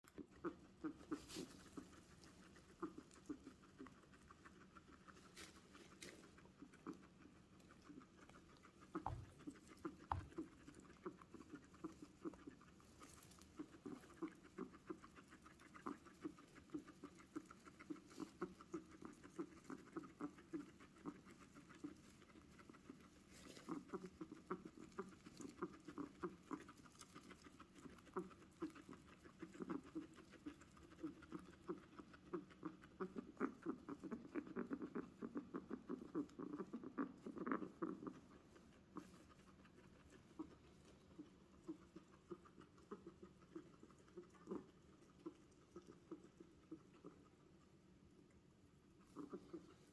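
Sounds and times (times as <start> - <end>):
guinea pig squeaking: 0.1 - 49.9.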